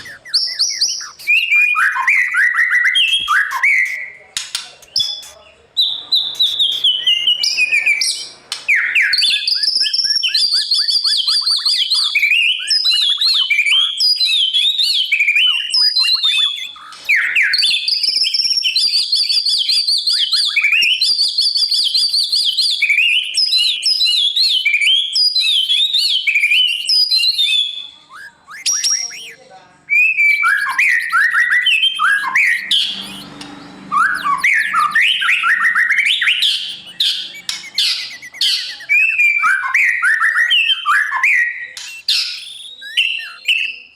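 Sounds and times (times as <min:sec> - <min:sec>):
bird singing whistled phrases: 0:00.0 - 0:43.9.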